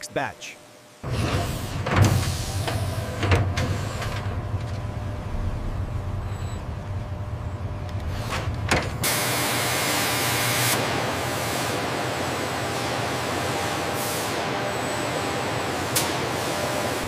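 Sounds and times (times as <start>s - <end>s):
industrial machinery hum: 0.0s - 17.0s.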